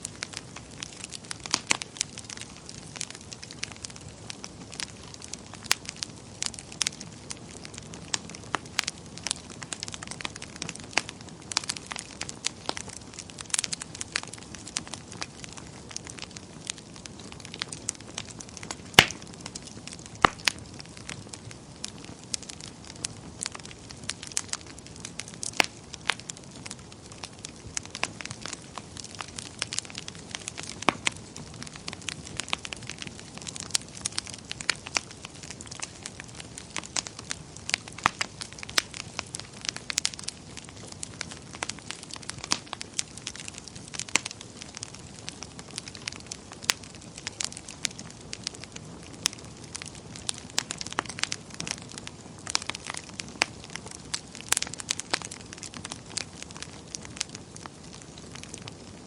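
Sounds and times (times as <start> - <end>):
low rushing of flames: 0.0 - 59.0
sharp pops from fire: 0.0 - 59.0
wood fire crackling: 0.0 - 59.0.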